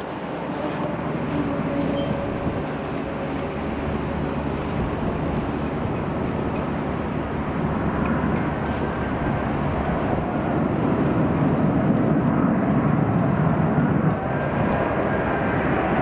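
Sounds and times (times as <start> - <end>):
jet aircraft rumble with whine: 0.0 - 16.0.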